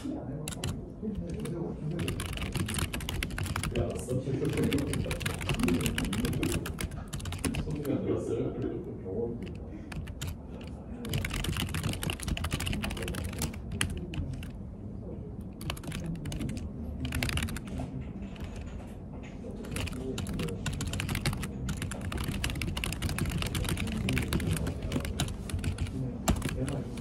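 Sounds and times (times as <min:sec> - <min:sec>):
fast typing on keyboard: 0:00.4 - 0:08.7, 0:09.3 - 0:14.6, 0:15.4 - 0:27.0.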